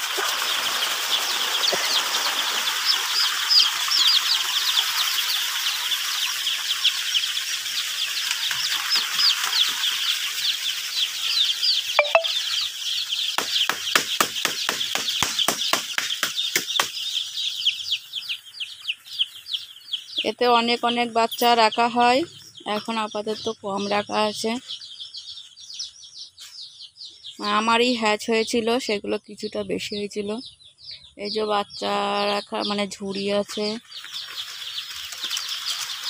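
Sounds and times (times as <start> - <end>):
chicks peeping: 0.1 - 36.0.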